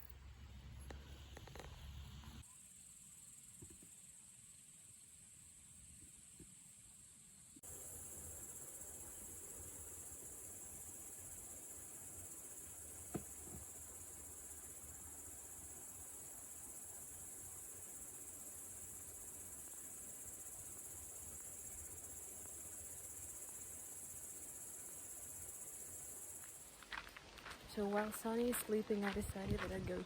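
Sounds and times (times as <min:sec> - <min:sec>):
insects chirring: 0:00.9 - 0:27.6.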